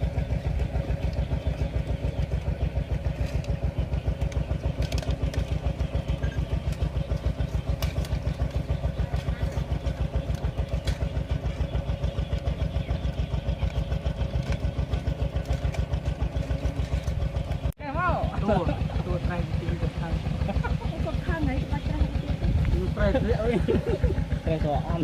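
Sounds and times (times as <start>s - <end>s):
small engine chugging: 0.0s - 25.0s.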